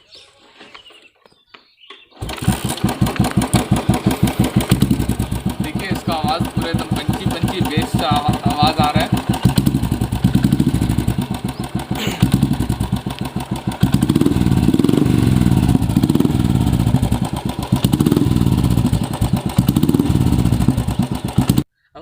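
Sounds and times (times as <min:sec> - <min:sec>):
motorcycle engine thumping and revving: 0:02.2 - 0:21.7.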